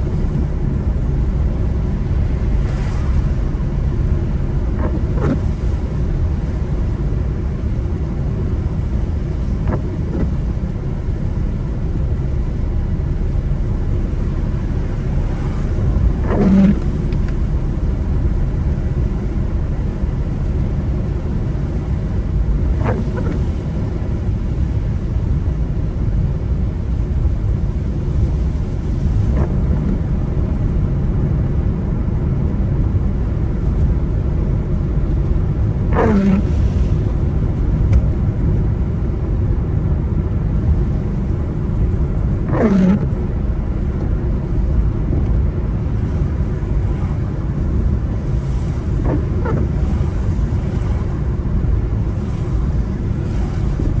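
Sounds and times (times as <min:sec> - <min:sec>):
car driving on wet road: 0:00.0 - 0:54.0
windscreen wipers swishing: 0:00.0 - 0:54.0.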